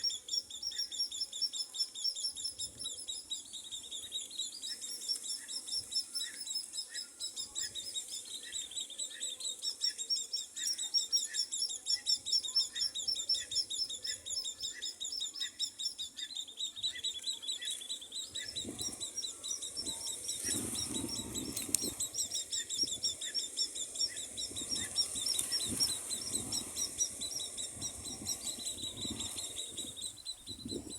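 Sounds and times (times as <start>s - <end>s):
baby bird peeping: 0.0s - 30.9s.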